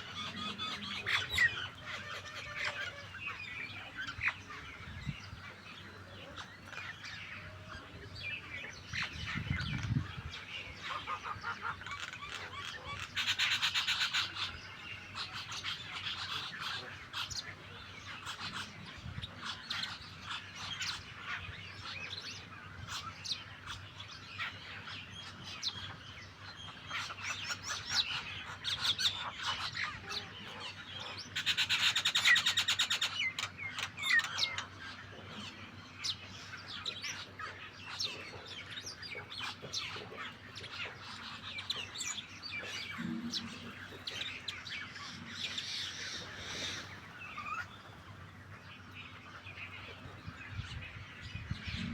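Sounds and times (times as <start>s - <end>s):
starlings and mynas chattering: 0.0s - 51.9s.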